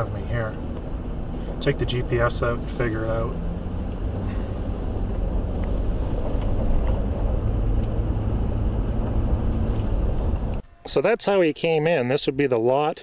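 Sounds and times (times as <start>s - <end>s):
car driving on gravel: 0.0s - 10.6s.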